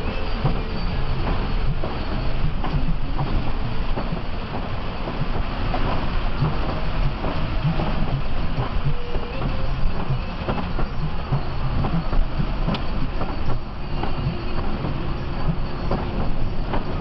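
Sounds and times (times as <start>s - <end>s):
bus body rattling: 0.0s - 17.0s
bus engine drone: 0.0s - 17.0s
road rumble: 0.0s - 17.0s.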